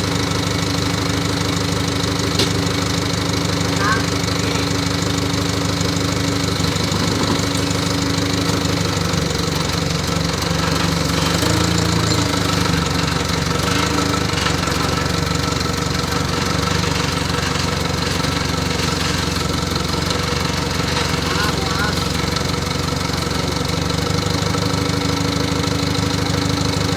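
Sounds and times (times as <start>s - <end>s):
diesel generator engine running: 0.0s - 26.9s.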